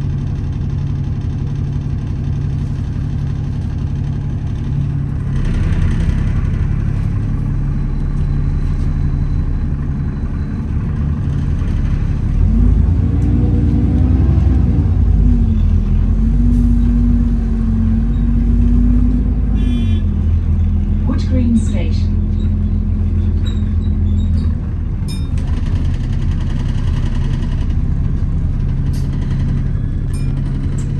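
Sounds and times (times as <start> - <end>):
bus engine and road rumble: 0.0 - 30.9.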